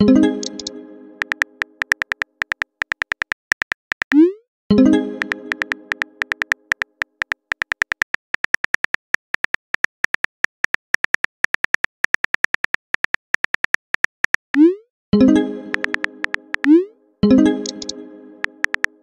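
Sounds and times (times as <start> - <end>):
phone keyboard typing clicks: 0.4 - 4.2, 5.2 - 14.6, 15.7 - 16.8, 17.6 - 19.0.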